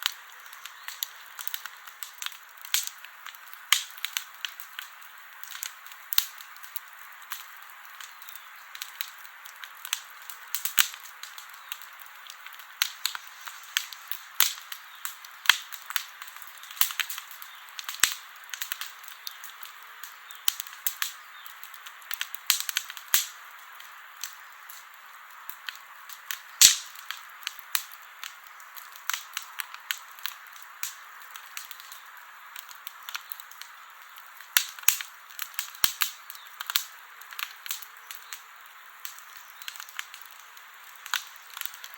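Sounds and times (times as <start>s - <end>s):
campfire crackling: 0.0s - 41.9s
soft steady hiss: 0.0s - 41.9s.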